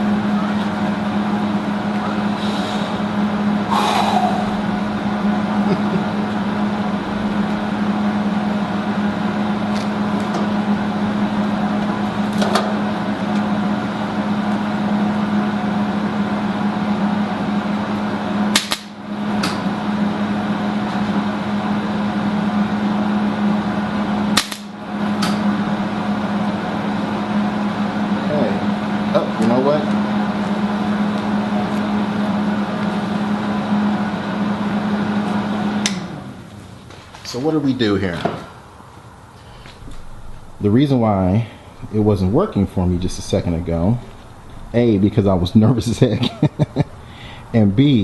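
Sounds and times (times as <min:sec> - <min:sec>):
welder humming: 0:00.0 - 0:38.6, 0:39.4 - 0:48.0.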